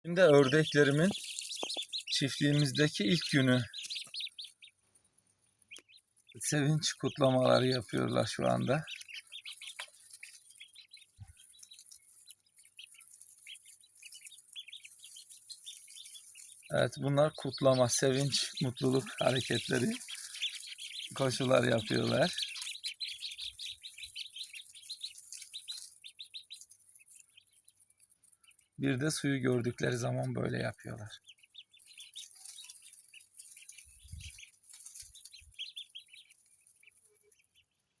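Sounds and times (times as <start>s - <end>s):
ducklings peeping: 0.1s - 38.0s.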